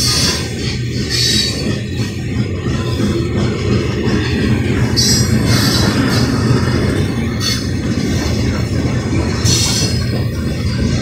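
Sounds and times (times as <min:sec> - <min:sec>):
train wheels squealing: 0:00.0 - 0:08.6, 0:09.3 - 0:11.0
train cars rumbling past: 0:00.0 - 0:11.0.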